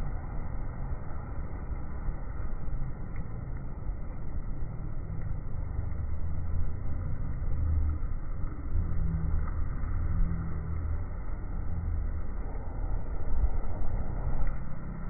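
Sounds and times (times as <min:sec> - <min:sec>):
waterfall rumble: 0:00.0 - 0:15.0.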